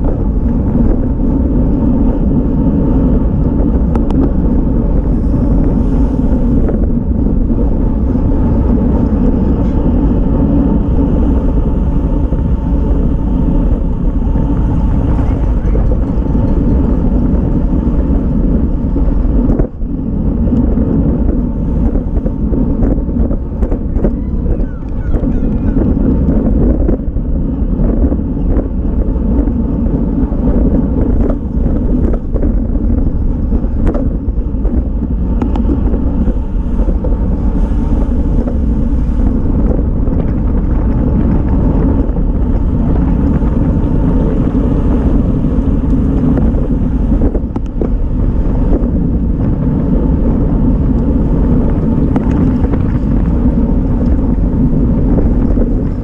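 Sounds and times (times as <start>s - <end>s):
tyre and road noise: 0.0s - 56.0s
wind rushing over microphone: 0.0s - 56.0s.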